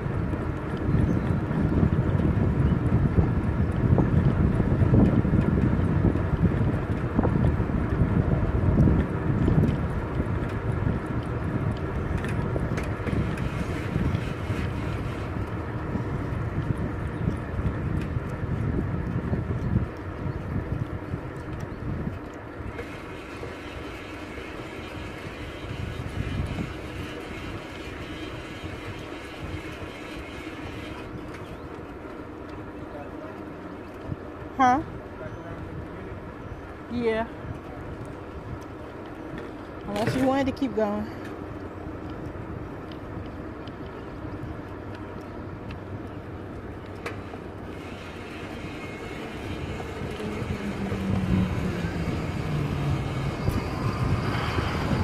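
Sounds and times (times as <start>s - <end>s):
bicycle tyre noise on asphalt: 0.0s - 55.0s
wind over microphone: 0.0s - 55.0s.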